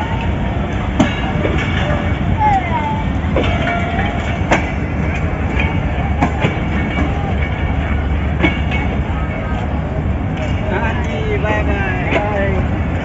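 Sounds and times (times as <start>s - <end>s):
train coaches rumbling: 0.0s - 13.0s
wheels clacking over rail joints: 0.0s - 13.0s.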